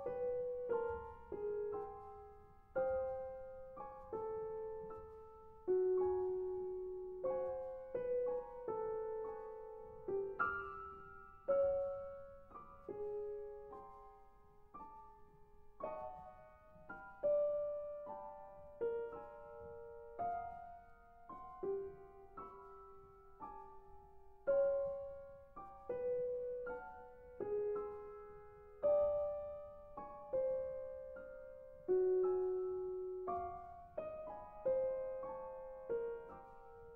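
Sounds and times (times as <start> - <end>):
solo piano chords: 0.0 - 36.9.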